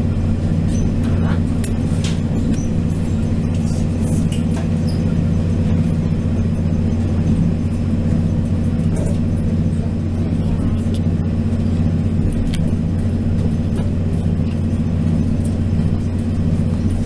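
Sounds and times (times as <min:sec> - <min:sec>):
diesel railcar engine drone: 0:00.0 - 0:17.0
wheels rumbling on track: 0:00.0 - 0:17.0.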